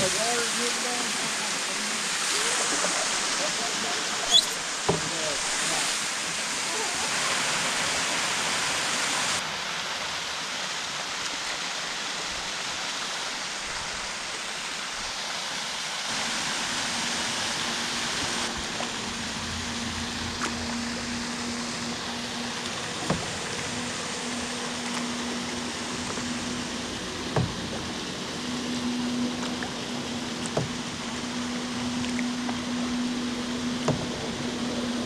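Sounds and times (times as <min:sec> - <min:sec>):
waterfall rushing and splashing: 0:00.0 - 0:35.0.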